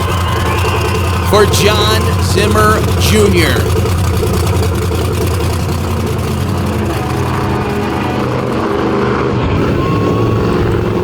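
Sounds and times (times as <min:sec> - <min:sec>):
monster truck engine running: 0:00.0 - 0:11.0.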